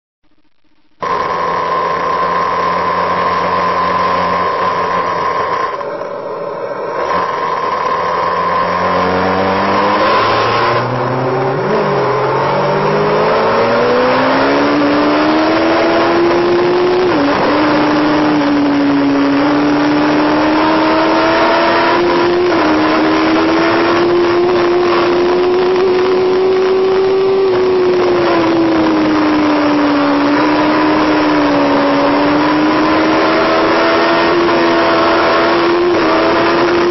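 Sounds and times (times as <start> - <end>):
motorcycle engine accelerating: 1.0 - 36.9.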